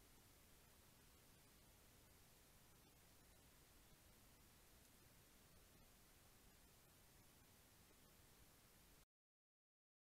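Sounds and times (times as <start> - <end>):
recording noise hiss: 0.0 - 9.1
faint ticks: 0.1 - 8.6.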